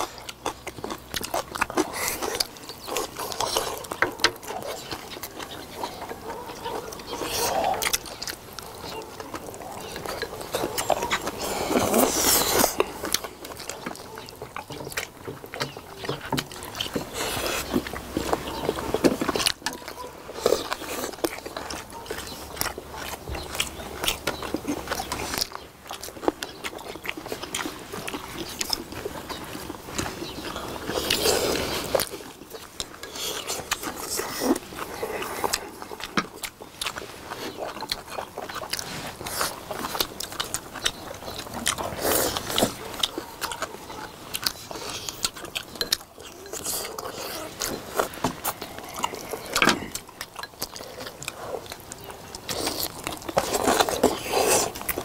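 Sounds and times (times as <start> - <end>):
people chewing and lip smacking: 0.0 - 55.0.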